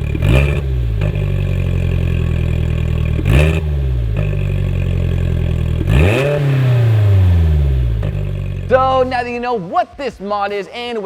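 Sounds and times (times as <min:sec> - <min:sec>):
engine revving: 0:00.0 - 0:09.5
car engine idling: 0:00.0 - 0:10.9.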